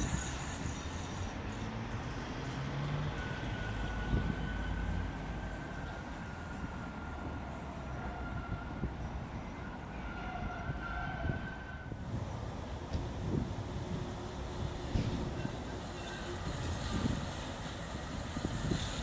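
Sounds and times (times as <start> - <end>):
tram wheels squealing: 0.0 - 2.2, 2.9 - 12.0, 14.5 - 19.0
tram running gear rumble: 2.8 - 19.0.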